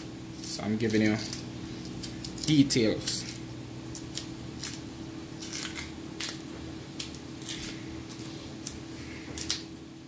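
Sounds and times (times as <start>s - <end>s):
faint steady hum: 0.0s - 10.0s
banana skin ripping and snapping: 0.3s - 9.8s.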